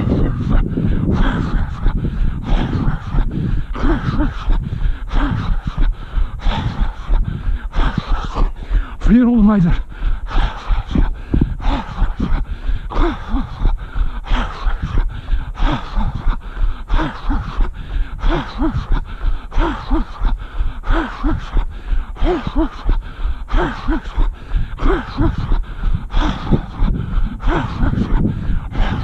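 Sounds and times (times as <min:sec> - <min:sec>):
man panting heavily: 0:00.0 - 0:29.0.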